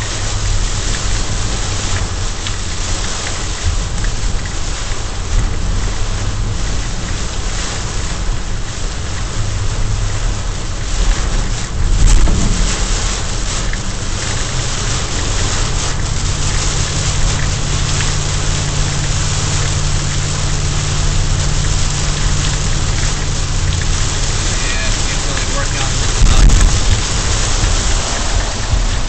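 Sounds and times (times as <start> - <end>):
car engine and tyre noise: 0.0 - 29.0
heavy rain on car windshield: 0.0 - 29.0.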